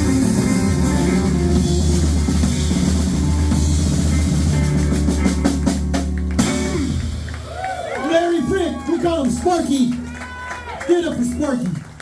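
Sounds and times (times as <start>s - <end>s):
drum kit: 0.0s - 11.3s
live rock band playing: 0.0s - 11.4s.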